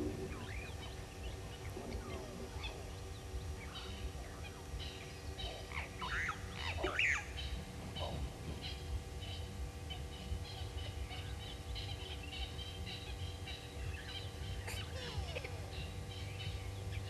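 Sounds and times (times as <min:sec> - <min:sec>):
wild birds calling and chirping: 0:00.0 - 0:17.0.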